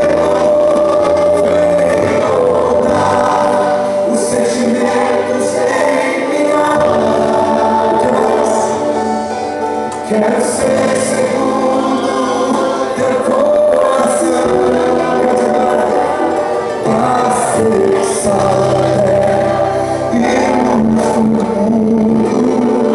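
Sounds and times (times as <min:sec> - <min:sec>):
worship song with instruments: 0:00.0 - 0:22.9.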